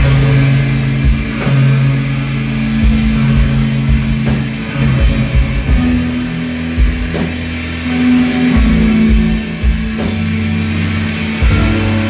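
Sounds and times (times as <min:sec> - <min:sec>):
drum kit hits: 0:00.0 - 0:12.0
electric guitars and bass: 0:00.0 - 0:12.0.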